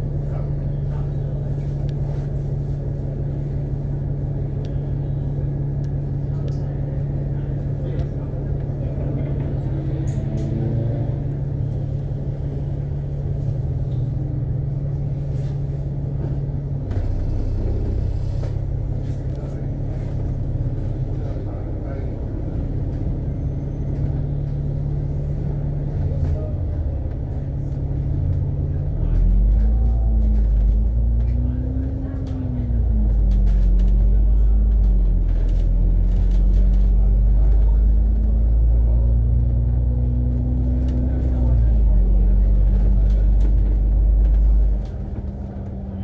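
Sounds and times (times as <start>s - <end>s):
bus engine and road drone: 0.0s - 46.0s.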